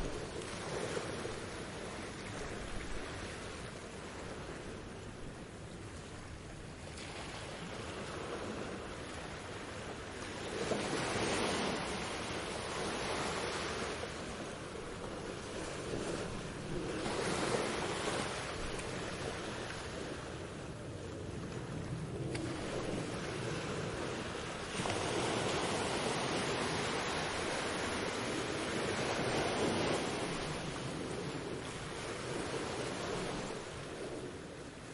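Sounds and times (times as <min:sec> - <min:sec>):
sea waves washing onto beach: 0:00.0 - 0:34.9.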